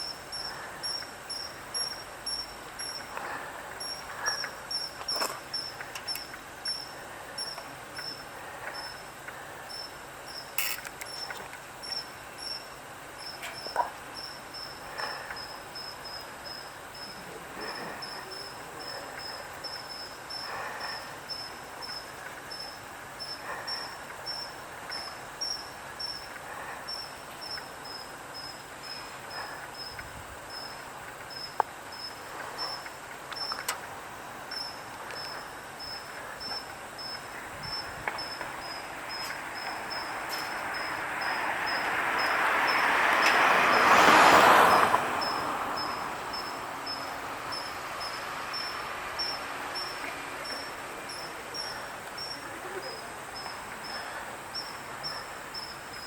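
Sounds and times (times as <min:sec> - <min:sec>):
high insect-like chirping: 0:00.0 - 0:44.0, 0:44.7 - 0:56.0.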